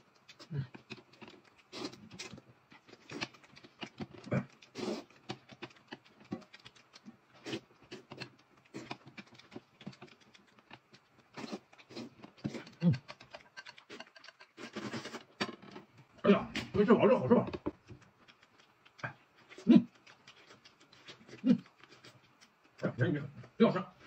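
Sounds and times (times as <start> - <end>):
chewing and crunching: 0.0 - 24.0.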